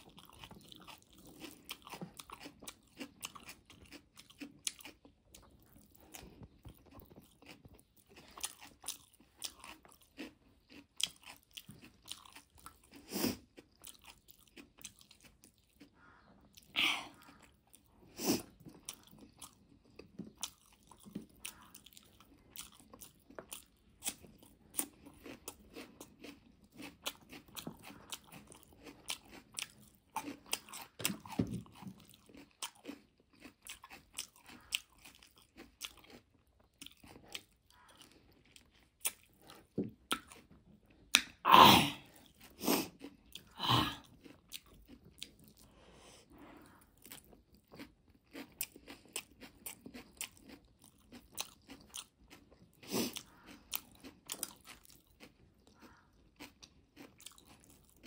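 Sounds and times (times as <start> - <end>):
chewing and mouth smacking: 0.0 - 41.4, 42.0 - 58.0.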